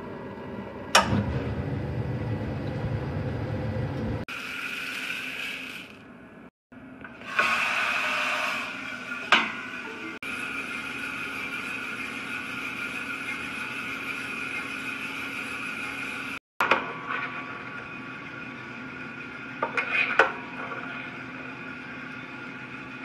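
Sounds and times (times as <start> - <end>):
coffee roaster mechanical hum: 0.0 - 23.0.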